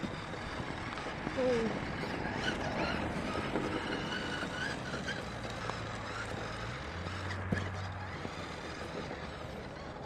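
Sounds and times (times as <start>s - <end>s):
toy car electric motor hum: 0.0s - 10.0s.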